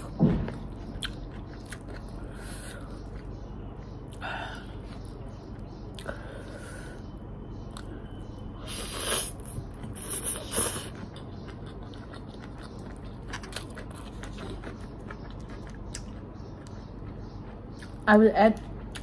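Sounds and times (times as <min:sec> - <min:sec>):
soft chewing: 0:00.0 - 0:19.0.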